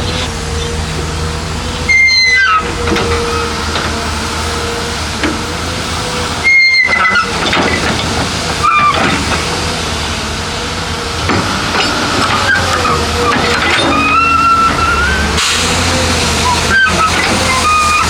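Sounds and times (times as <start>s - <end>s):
high-pitched squeals: 0.0s - 5.0s, 6.0s - 9.4s, 11.8s - 18.0s
heavy machinery hiss and rumble: 0.0s - 18.0s.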